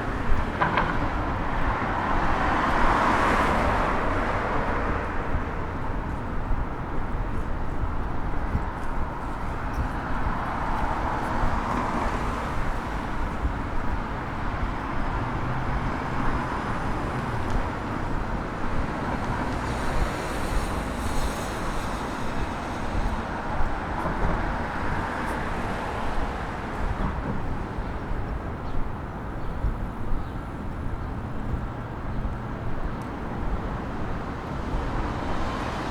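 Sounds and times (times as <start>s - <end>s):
cars and buses passing: 0.0s - 35.9s.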